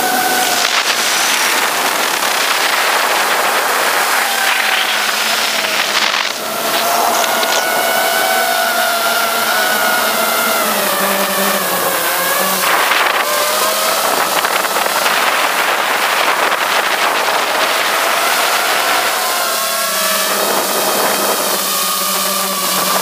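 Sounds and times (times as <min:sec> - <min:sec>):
quadcopter propellers whining: 0:00.0 - 0:23.0.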